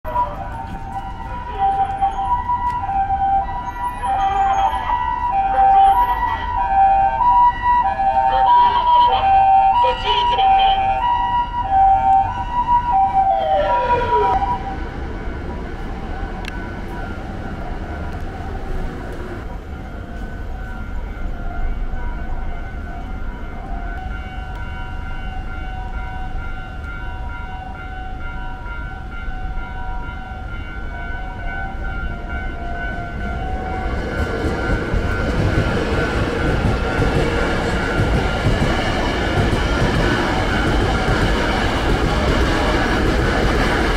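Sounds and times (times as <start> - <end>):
traffic noise: 0.0 - 43.9
two-tone ambulance siren: 0.1 - 43.9.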